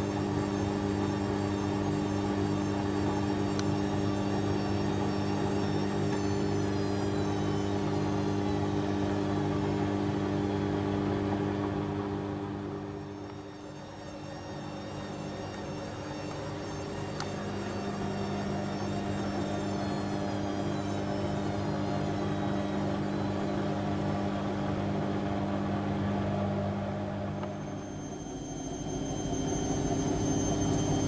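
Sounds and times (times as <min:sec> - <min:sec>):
washing machine drum motor hum: 0:00.0 - 0:31.0.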